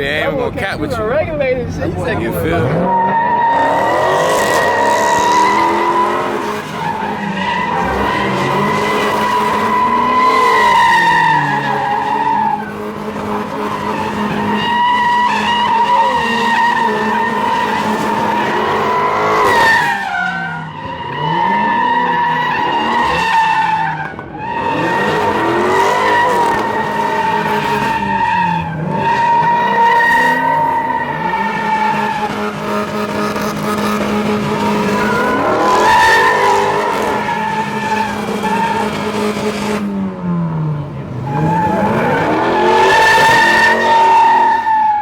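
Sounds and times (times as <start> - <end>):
car engine revving: 0.0 - 45.0
car tires squealing: 2.4 - 45.0.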